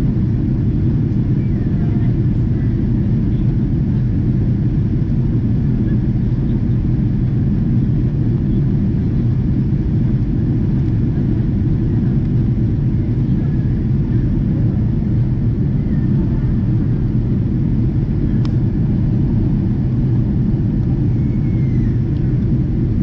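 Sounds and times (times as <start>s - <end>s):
airplane cabin engine drone: 0.0s - 23.0s.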